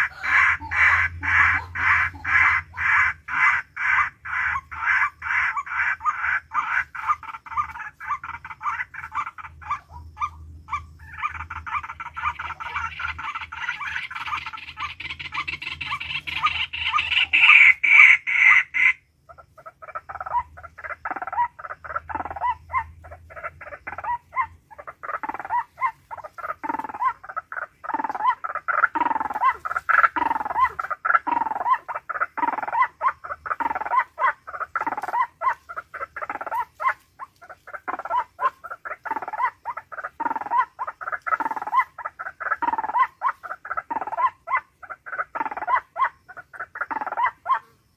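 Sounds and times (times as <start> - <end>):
animal calling: 0.0 - 47.9.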